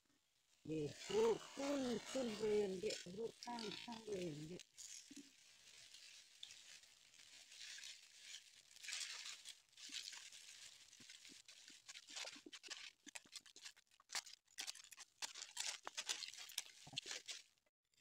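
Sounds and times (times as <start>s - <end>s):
dry leaves rustling and crackling: 0.7s - 17.5s
small ticks and crackles: 0.9s - 17.6s.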